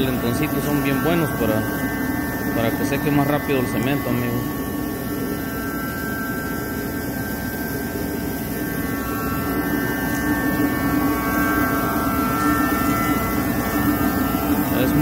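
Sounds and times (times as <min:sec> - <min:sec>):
kerosene heater rushing hum: 0:00.0 - 0:15.0.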